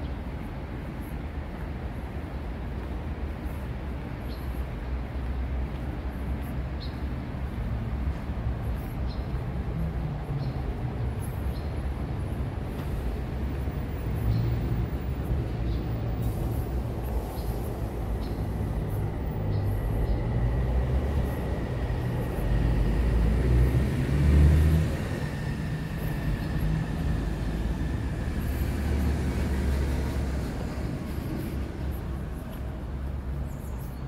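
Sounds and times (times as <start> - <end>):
vehicle rumble: 0.0 - 34.0.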